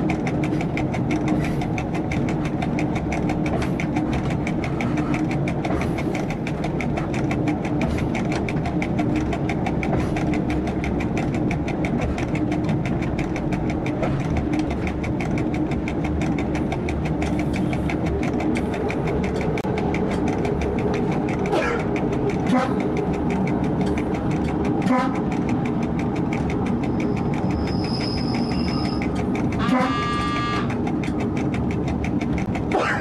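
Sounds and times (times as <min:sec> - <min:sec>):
diesel train engine running: 0:00.0 - 0:33.0
fast even ticking: 0:00.0 - 0:33.0.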